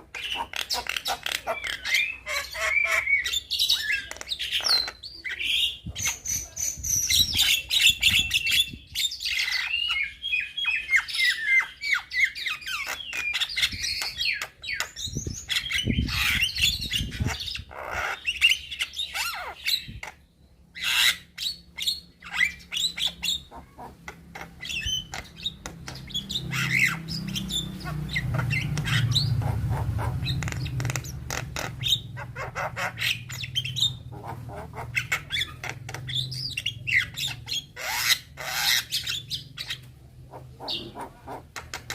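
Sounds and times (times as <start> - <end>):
myna bird singing: 0.0 - 41.9.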